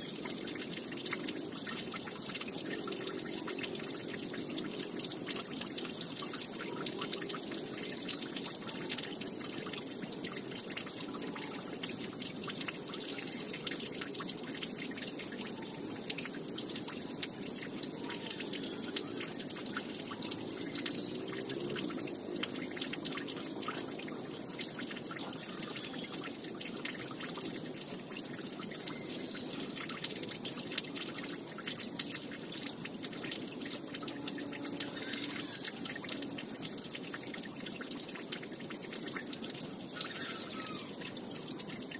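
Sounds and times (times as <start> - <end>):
water dripping: 0.0 - 41.9.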